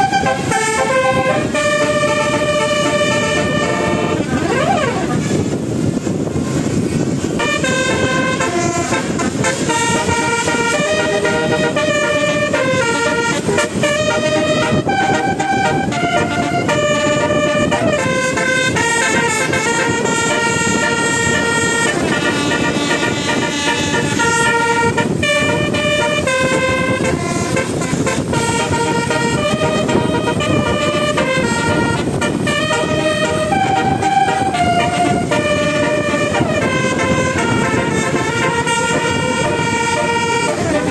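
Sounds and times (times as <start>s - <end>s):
bus multi-tone horn tune: 0.0s - 40.9s.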